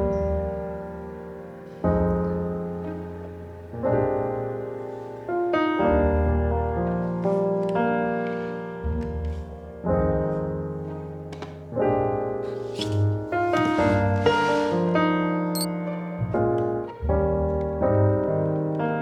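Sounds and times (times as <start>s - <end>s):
soft piano chords: 0.0s - 19.0s.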